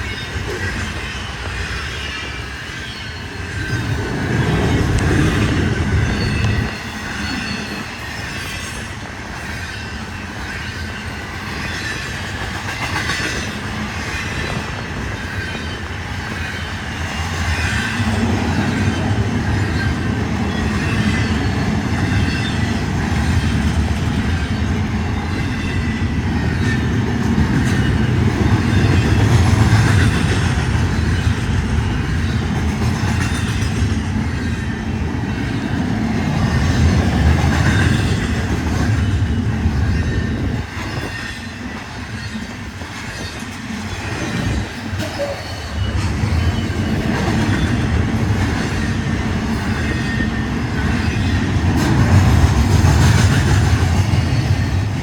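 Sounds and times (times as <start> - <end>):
clickety-clack over rail joints: 0.0 - 55.0
low train rumble: 0.0 - 55.0
train wheels squealing on rails: 0.0 - 55.0.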